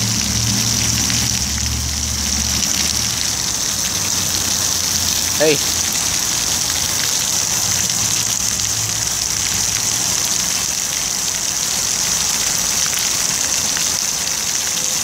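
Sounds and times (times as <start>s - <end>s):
fountain jet spraying: 0.0s - 15.0s
water splashing on paving: 0.0s - 15.0s.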